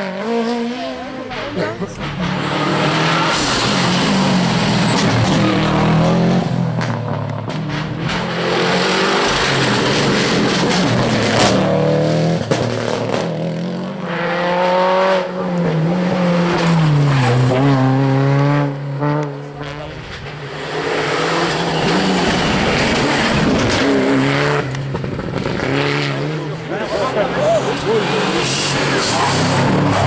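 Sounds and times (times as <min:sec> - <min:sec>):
rally car engine high revs: 0:00.0 - 0:30.0
second rally car accelerating: 0:00.0 - 0:30.0.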